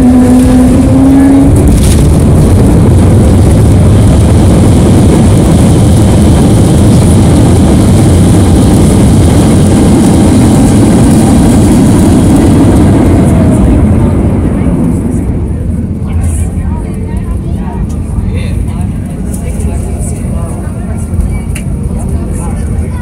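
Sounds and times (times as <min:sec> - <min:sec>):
airplane cabin rumble on landing: 0:00.0 - 0:23.0.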